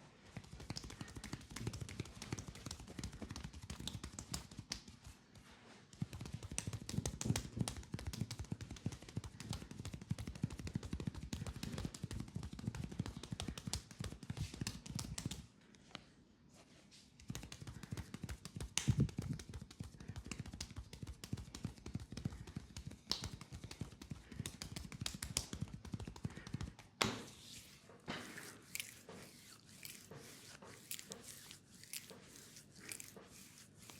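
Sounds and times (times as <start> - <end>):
hands slapping skin rapidly: 0.3 - 5.3, 5.9 - 15.5, 17.2 - 27.8, 28.4 - 33.9.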